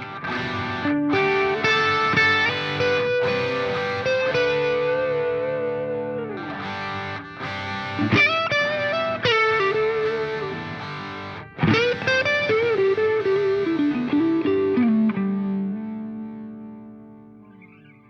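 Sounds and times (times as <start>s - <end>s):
distorted electric guitar melody: 0.0s - 18.0s.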